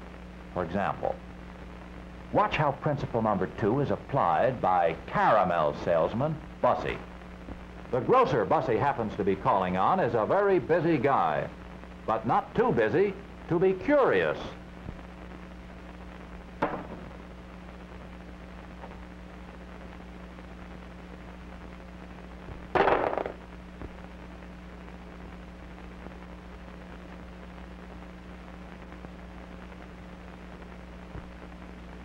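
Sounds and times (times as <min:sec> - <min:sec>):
film soundtrack hum and hiss: 0:00.0 - 0:32.0.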